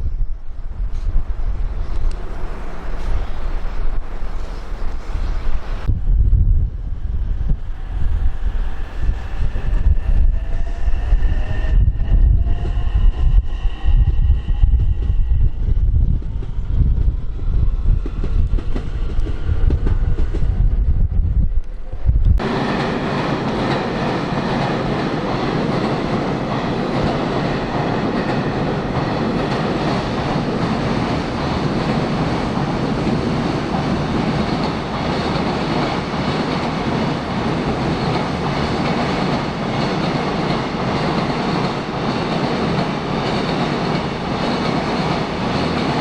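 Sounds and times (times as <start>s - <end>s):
train running by: 0.0s - 46.0s
wind buffeting microphone: 0.0s - 46.0s.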